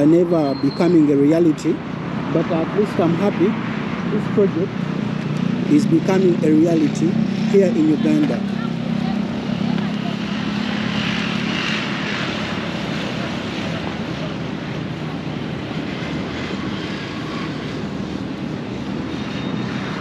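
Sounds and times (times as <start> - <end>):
road traffic rushing: 0.0 - 20.0
vehicle engines droning: 0.0 - 20.0.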